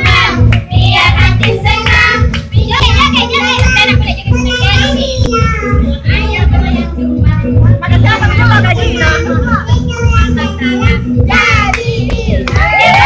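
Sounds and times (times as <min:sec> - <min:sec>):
child singing: 0:00.0 - 0:13.0
pop backing track with heavy bass: 0:00.0 - 0:13.0.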